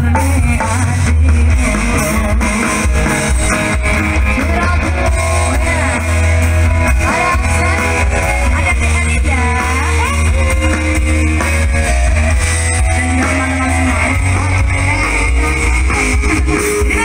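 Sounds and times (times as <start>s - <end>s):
loud rock song: 0.0s - 17.0s.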